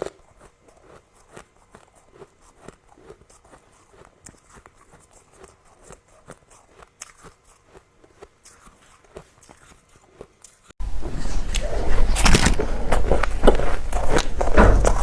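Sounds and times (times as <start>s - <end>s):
chewing frost crunches: 0.0s - 10.7s, 11.5s - 15.0s.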